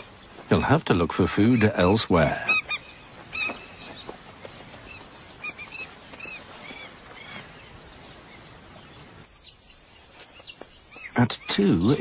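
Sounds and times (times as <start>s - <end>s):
birds calling sharply: 0.0s - 12.0s
faint background hiss: 0.0s - 12.0s.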